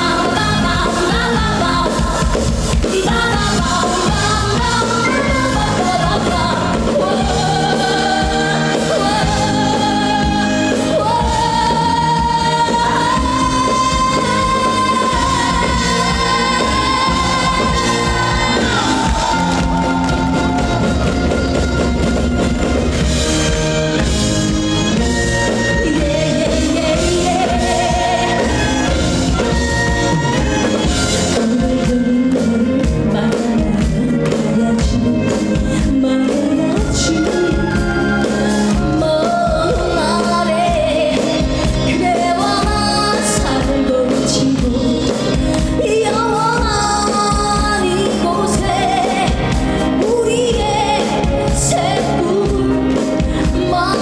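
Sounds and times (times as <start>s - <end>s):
woman singing with vibrato: 0.0s - 22.1s, 22.9s - 54.0s
amplified backing music: 0.0s - 54.0s.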